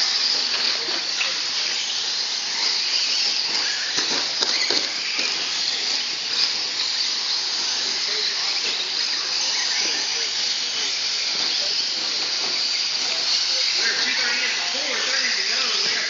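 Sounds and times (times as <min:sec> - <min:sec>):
rc truck motors and tyres hissing: 0:00.0 - 0:16.0.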